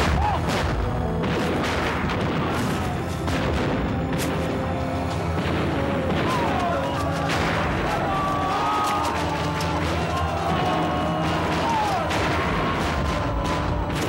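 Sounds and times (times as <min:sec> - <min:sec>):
cannon shots: 0:00.0 - 0:14.0
dramatic music: 0:00.0 - 0:14.0
explosions: 0:00.0 - 0:14.0.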